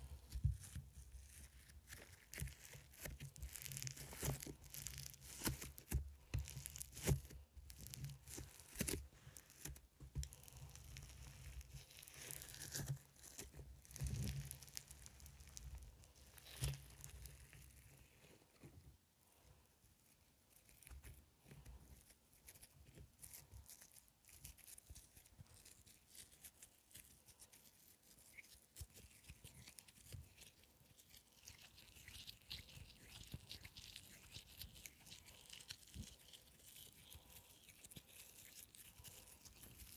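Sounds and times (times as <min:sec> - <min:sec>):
fingers squeezing foam slime: 0:00.0 - 0:18.2, 0:21.9 - 0:39.9.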